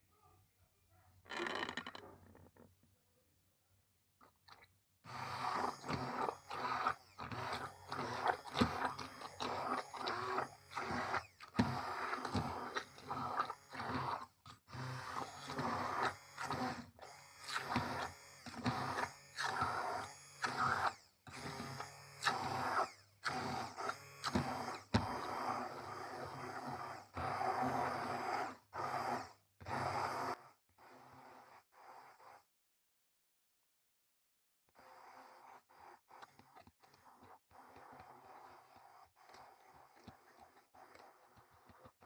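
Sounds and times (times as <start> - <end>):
immersion blender running: 5.1 - 32.2, 34.8 - 42.0.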